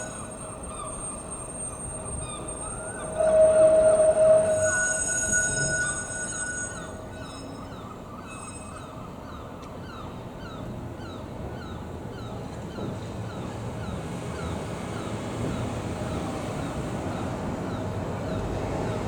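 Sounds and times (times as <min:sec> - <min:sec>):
tram rumble: 0:00.0 - 0:19.0
tram wheels squealing on rails: 0:00.0 - 0:19.0.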